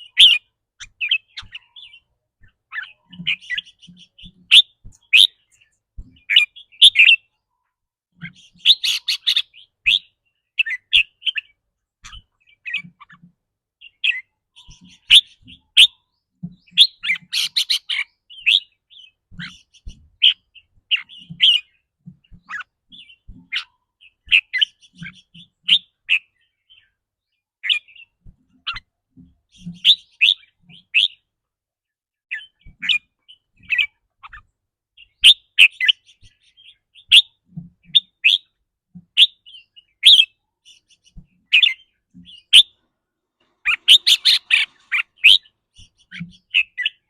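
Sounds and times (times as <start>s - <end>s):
bird singing chirpy phrases: 0.0s - 28.9s, 29.5s - 31.3s, 32.2s - 38.6s, 39.2s - 42.8s, 43.6s - 47.0s.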